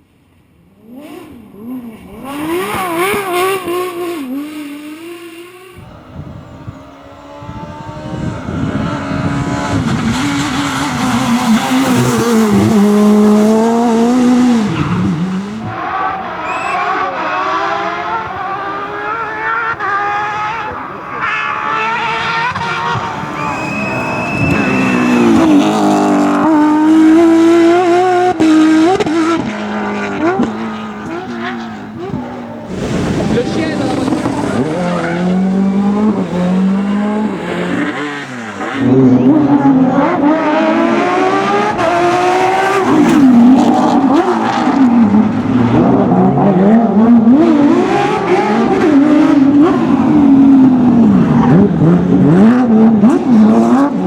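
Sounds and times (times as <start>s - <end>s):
rally car engine at high revs: 0.8s - 54.0s.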